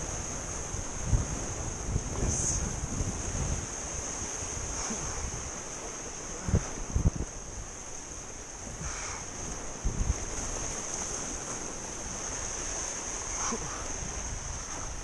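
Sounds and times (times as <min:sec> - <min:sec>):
surf washing on rocky shore: 0:00.0 - 0:15.0
wind buffeting microphone: 0:00.0 - 0:15.0.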